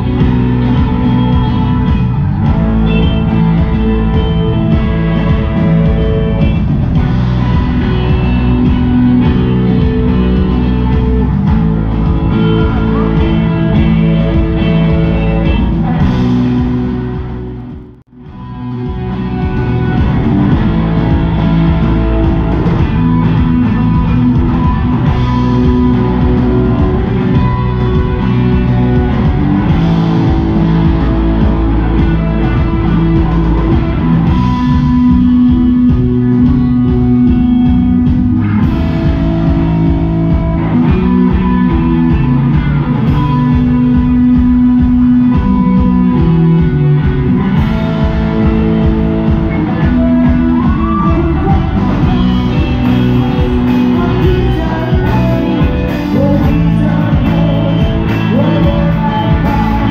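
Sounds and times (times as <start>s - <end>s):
bass guitar: 0.0s - 59.9s
drum kit: 0.0s - 59.9s
electric guitars sustained notes: 0.0s - 59.9s.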